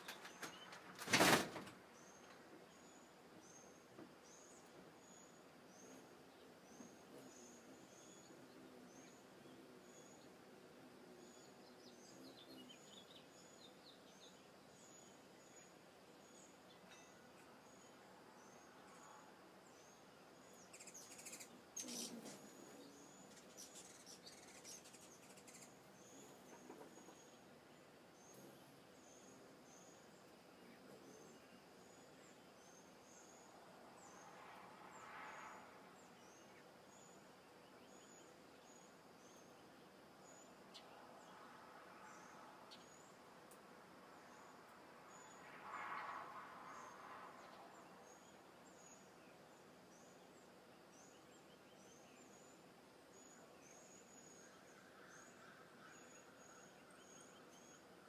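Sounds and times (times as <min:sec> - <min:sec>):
bird chirping: 0:00.0 - 0:43.6, 0:46.8 - 0:58.0.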